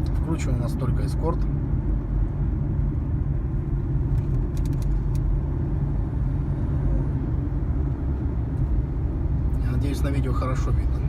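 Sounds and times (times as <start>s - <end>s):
tyre and suspension rumble: 0.0s - 11.0s.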